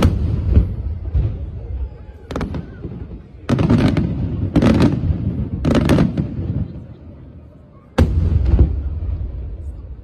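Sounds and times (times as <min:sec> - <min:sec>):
fireworks bursting: 0:00.0 - 0:09.9.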